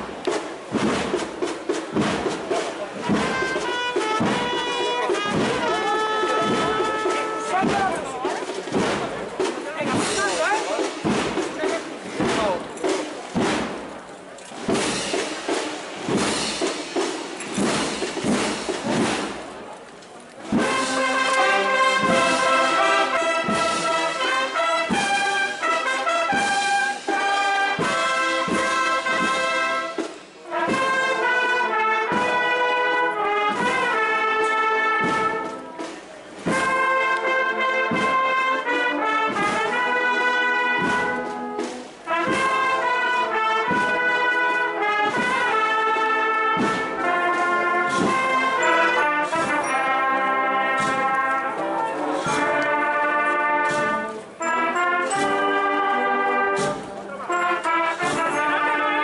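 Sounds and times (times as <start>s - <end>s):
brass band playing march: 0.0s - 59.0s
drum strokes: 0.0s - 59.0s.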